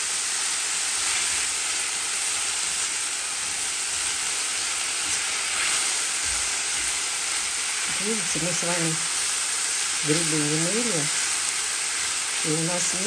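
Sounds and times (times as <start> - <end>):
mushrooms sizzling in a frying pan: 0.0 - 13.0
spatula stirring in a pan: 0.7 - 13.0.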